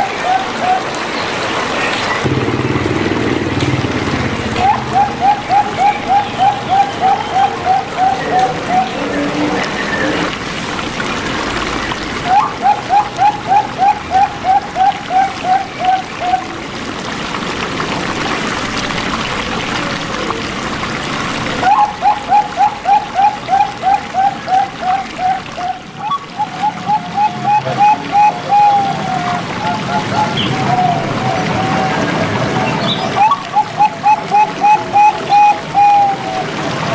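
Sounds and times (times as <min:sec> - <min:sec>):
doves cooing: 0:00.0 - 0:01.3, 0:02.2 - 0:10.4, 0:11.8 - 0:16.6, 0:21.4 - 0:36.9
trickle of running water: 0:00.0 - 0:36.9.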